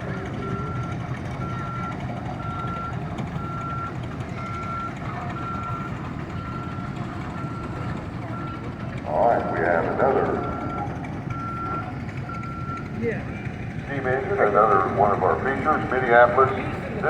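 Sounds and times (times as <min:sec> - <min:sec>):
engine rumbling: 0:00.0 - 0:17.0
reversing alarm beeping: 0:00.0 - 0:17.0.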